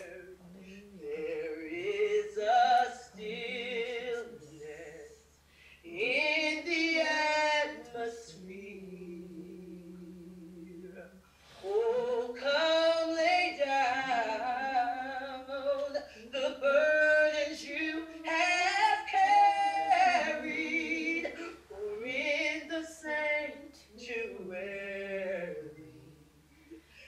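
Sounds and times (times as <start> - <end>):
woman singing unaccompanied: 0.0 - 27.0.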